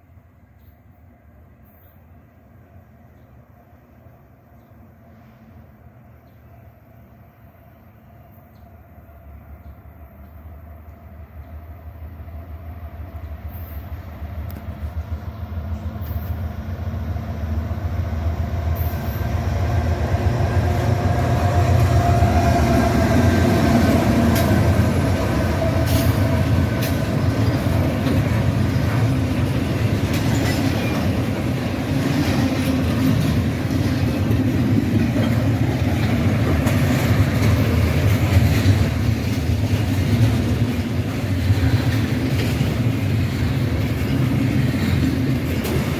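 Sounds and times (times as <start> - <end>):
diesel train passing: 0.0 - 45.9.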